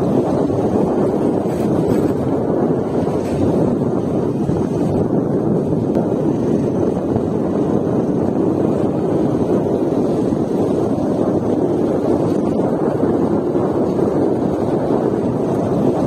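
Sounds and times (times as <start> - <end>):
wind rushing: 0.0 - 16.0.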